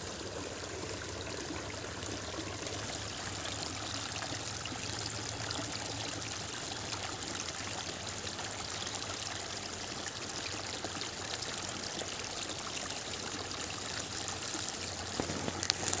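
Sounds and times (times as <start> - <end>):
water trickling in a channel: 0.0 - 16.0.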